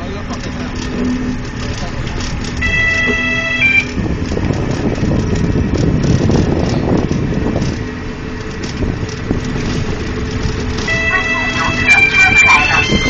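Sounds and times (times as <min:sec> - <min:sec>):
cart body rattling: 0:00.0 - 0:13.0
cart road rumble: 0:00.0 - 0:13.0.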